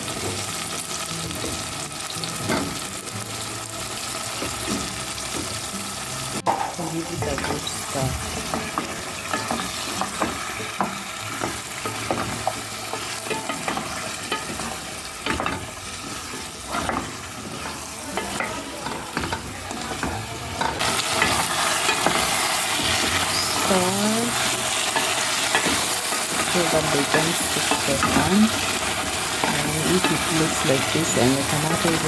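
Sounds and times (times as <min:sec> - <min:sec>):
food sizzling in pan: 0:00.0 - 0:32.0.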